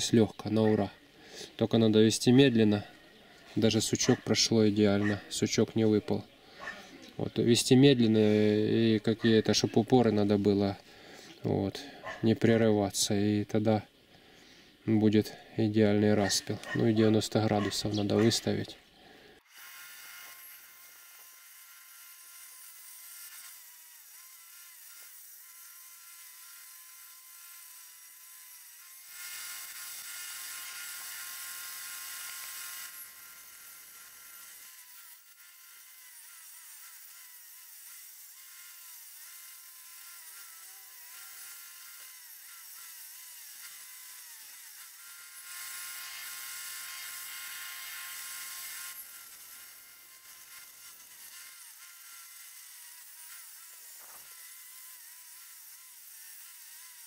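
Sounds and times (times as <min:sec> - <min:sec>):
circular saw cutting wood: 0:00.0 - 0:13.8, 0:14.6 - 0:57.0.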